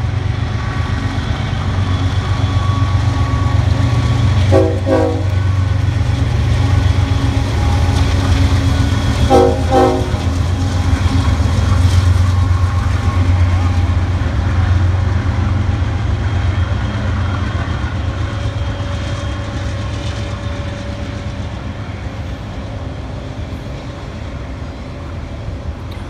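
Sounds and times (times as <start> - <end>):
freight train wheels rumbling on rails: 0.0 - 26.0.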